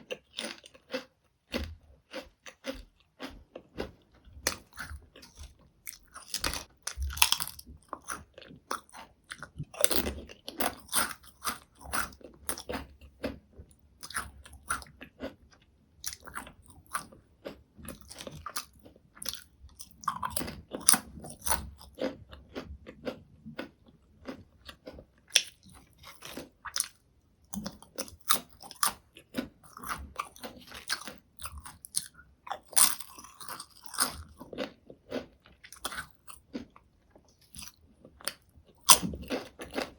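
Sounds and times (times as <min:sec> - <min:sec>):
potato chips crunching: 0:00.0 - 0:13.4, 0:16.0 - 0:27.0, 0:27.6 - 0:39.9.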